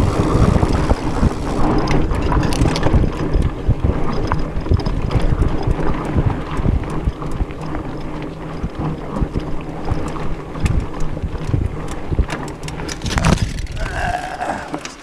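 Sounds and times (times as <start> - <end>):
wind buffeting microphone: 0.0 - 14.8
bike clicks and knocks: 0.0 - 15.0
bike tyres rolling over dirt: 0.0 - 15.0.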